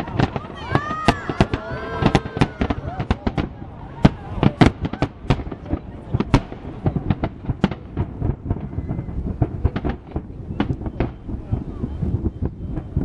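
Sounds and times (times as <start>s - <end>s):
deep fireworks booms: 0.0s - 13.0s
fireworks bangs: 0.0s - 13.0s.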